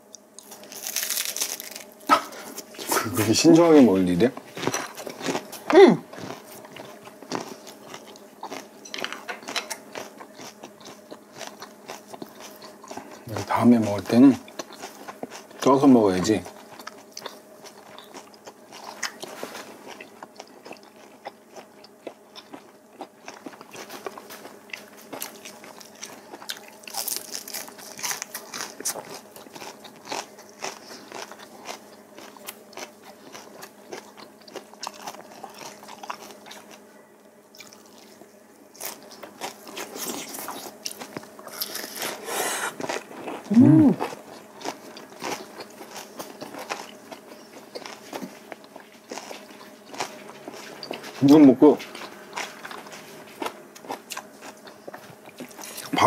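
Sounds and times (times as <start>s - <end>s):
biting and chewing vegetables: 0.0s - 56.0s.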